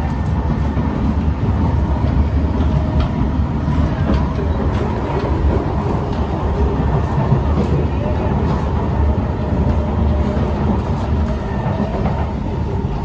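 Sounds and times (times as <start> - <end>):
train rumble inside passenger car: 0.0 - 13.0.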